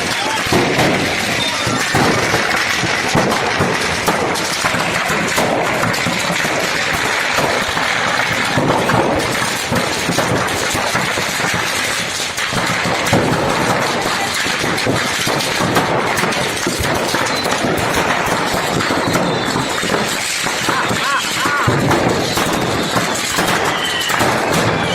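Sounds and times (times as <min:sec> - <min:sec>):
firecrackers rattling: 0:00.0 - 0:24.9.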